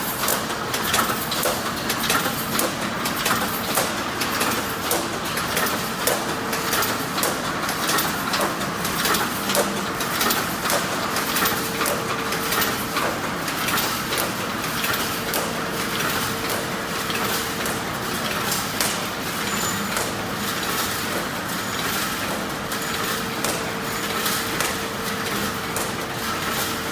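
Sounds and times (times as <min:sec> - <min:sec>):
welding machine clicking and clacking: 0:00.0 - 0:26.9.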